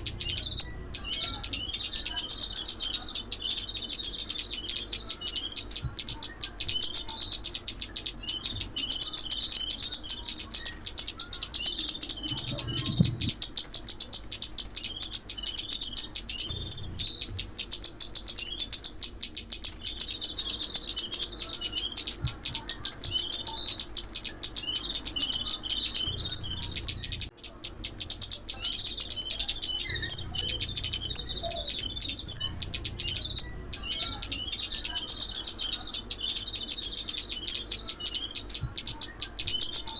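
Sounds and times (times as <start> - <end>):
sunbird twittering chirps: 0.0 - 39.9.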